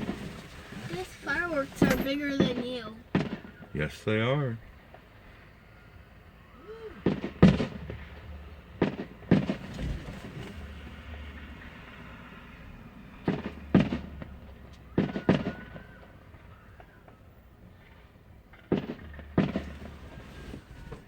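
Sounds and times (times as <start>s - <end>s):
fireworks shells bursting: 0.0s - 4.0s, 7.0s - 21.0s.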